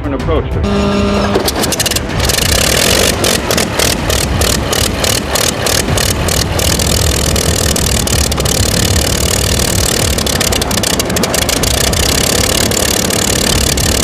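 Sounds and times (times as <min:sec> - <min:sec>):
aircraft piston engine running: 0:00.7 - 0:14.0.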